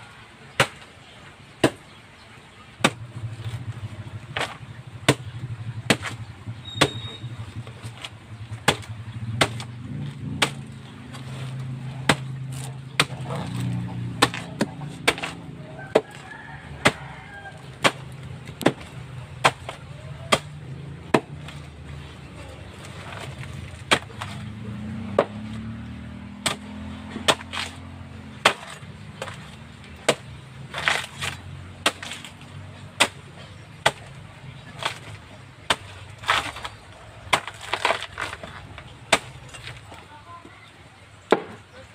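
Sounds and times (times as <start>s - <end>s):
machete chopping banana trunk: 0.5s - 2.0s, 2.8s - 40.1s, 41.2s - 41.8s.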